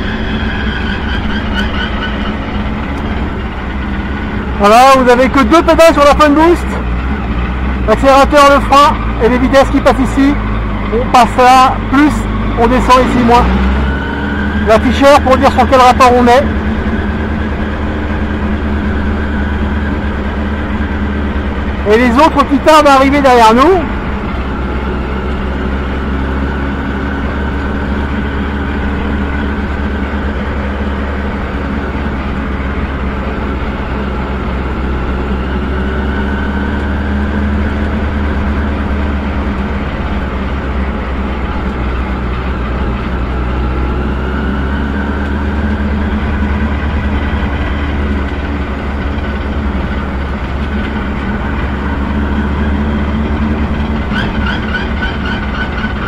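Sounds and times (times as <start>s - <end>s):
race car engine running: 0.0s - 56.0s
road and wind noise: 0.0s - 56.0s.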